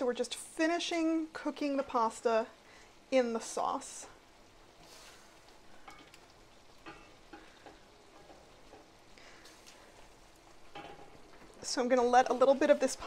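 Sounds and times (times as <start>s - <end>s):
low sizzle: 0.0s - 13.0s.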